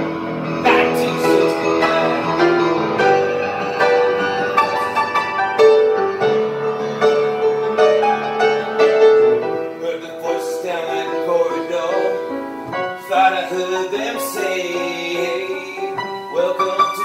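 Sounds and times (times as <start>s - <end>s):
upright piano playing: 0.0s - 17.0s.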